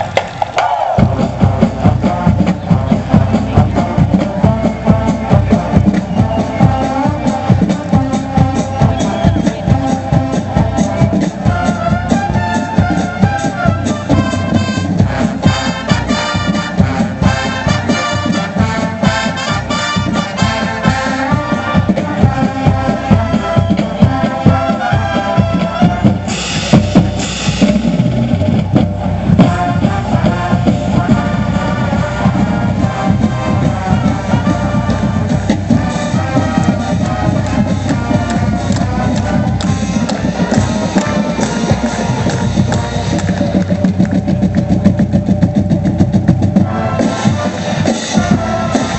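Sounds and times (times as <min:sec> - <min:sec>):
marching drums beat: 0:00.0 - 0:48.9
brass holding chords: 0:01.1 - 0:27.5, 0:29.0 - 0:43.9, 0:46.6 - 0:48.9.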